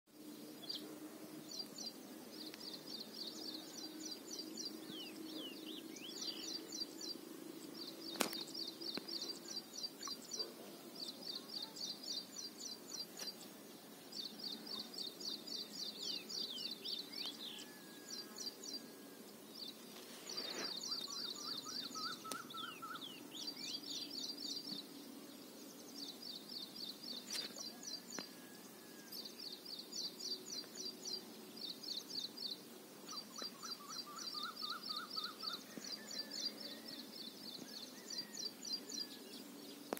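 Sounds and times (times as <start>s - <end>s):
bird chirping trills: 0.4s - 39.9s.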